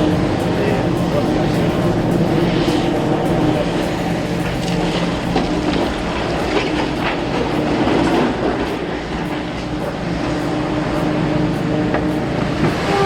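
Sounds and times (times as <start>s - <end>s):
heavy machine rumbling: 0.0s - 13.0s.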